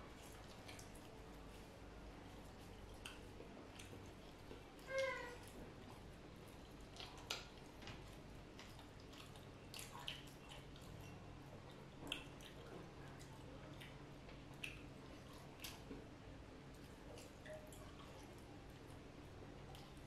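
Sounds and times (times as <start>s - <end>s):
mouths chewing wetly: 0.0s - 20.0s
fingers squishing in sauce: 0.1s - 20.0s.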